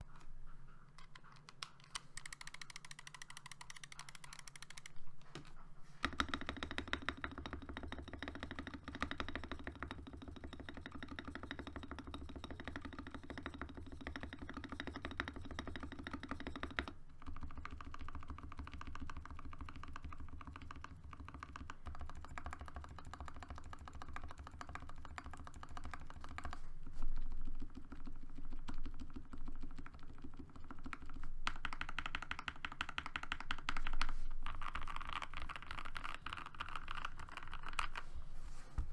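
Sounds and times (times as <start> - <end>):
mechanical keyboard typing: 1.0 - 5.0, 6.1 - 26.6, 27.6 - 38.0.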